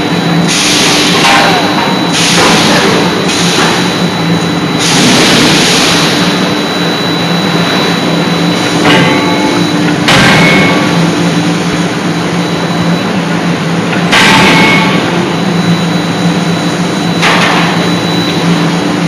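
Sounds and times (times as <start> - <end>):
hydraulic power unit hum: 0.0 - 19.0.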